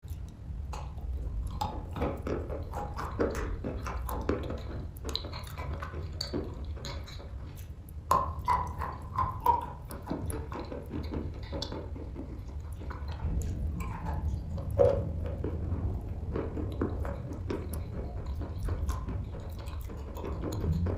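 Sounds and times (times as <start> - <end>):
low steady hum: 0.0 - 20.9
wet chalk being chewed: 0.0 - 20.9.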